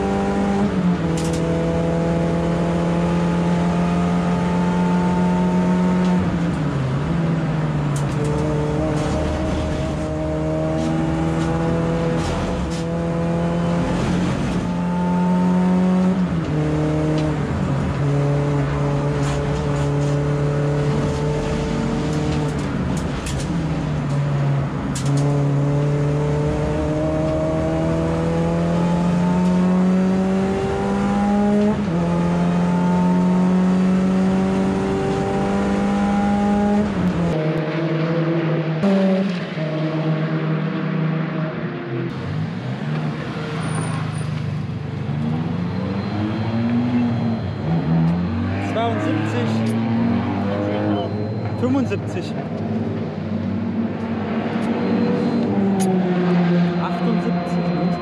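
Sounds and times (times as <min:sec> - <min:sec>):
race car engine under load: 0:00.0 - 0:58.0.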